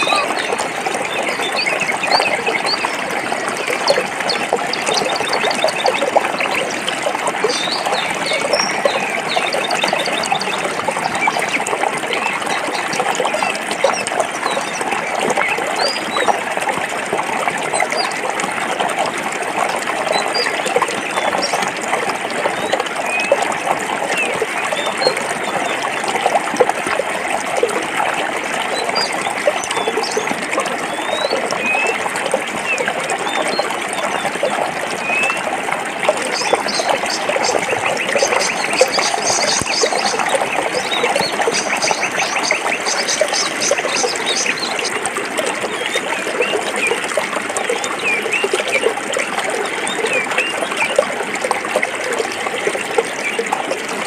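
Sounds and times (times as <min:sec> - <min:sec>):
stream burbling over rocks: 0:00.0 - 0:54.0.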